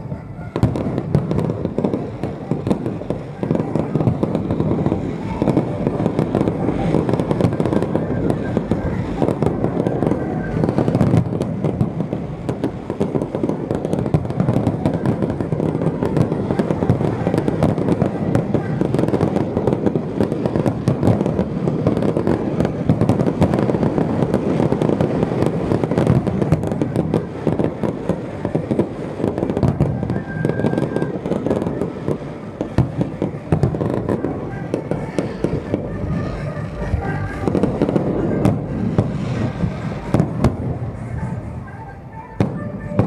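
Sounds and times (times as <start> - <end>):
fireworks bangs and crackle: 0.0 - 43.0.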